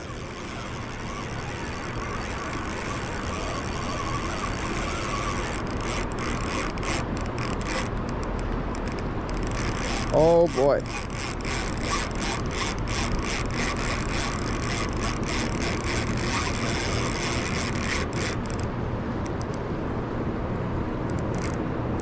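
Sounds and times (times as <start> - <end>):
fishing reel drag clicking: 0.0 - 19.6, 21.1 - 22.0.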